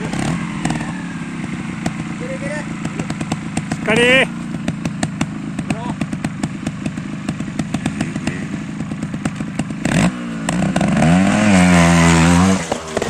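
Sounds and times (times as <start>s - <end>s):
motorcycle engine idling: 0.0s - 13.0s
motorcycle engine revving: 0.0s - 13.0s.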